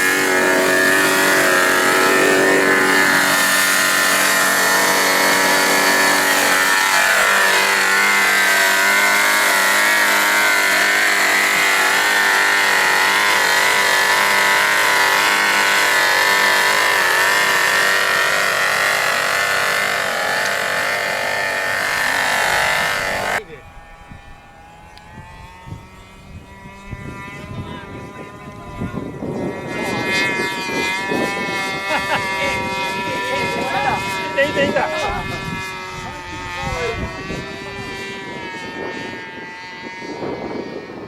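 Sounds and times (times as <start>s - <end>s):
model engine running: 0.0s - 41.0s.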